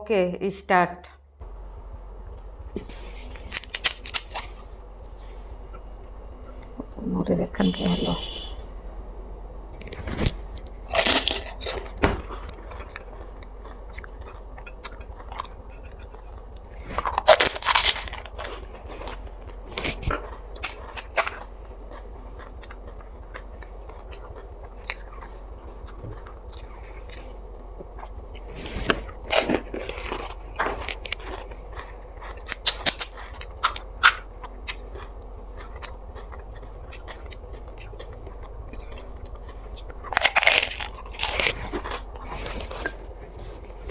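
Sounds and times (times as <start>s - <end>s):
crisp shells crunching: 2.3s - 6.9s, 9.7s - 43.9s.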